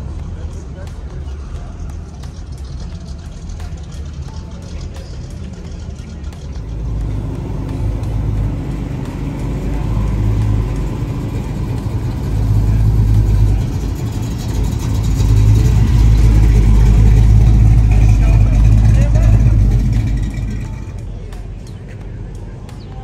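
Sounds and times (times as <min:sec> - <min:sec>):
car engine and exhaust rumbling: 0:00.0 - 0:23.0.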